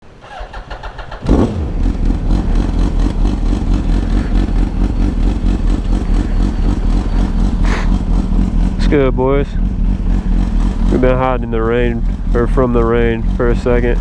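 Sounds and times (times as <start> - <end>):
motorcycle engine starting: 0.0 - 14.0.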